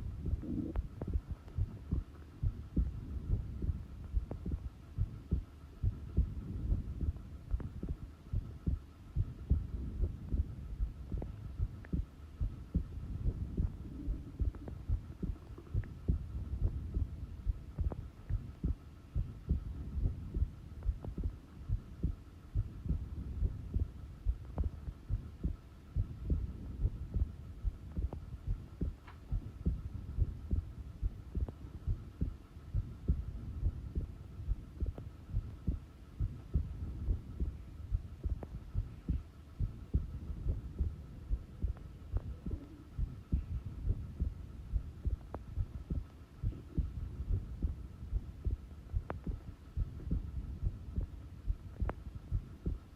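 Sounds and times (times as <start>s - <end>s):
faint steady hum: 0.0s - 52.9s
heart beating thumps: 0.0s - 52.9s.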